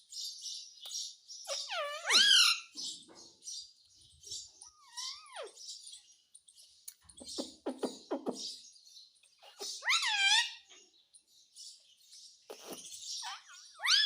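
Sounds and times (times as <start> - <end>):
parrot chirping and chattering: 0.3 - 14.0.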